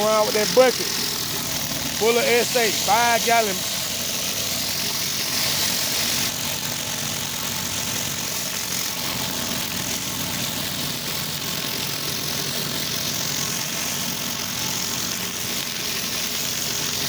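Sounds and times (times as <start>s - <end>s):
pressure washer engine running: 0.0s - 17.0s
water spraying on concrete: 0.0s - 17.0s.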